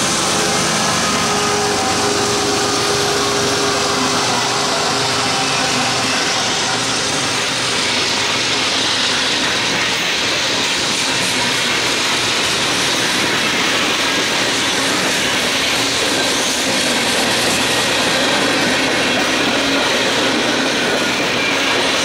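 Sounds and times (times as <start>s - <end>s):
locomotive engine running: 0.0s - 22.0s
train wheels rolling on rails: 0.0s - 22.0s.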